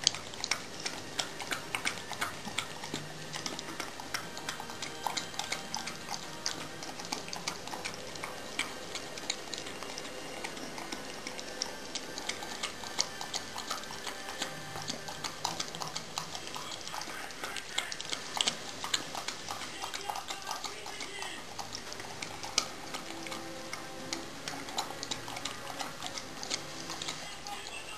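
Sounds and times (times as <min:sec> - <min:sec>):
dog lapping from a bowl: 0:00.0 - 0:27.9.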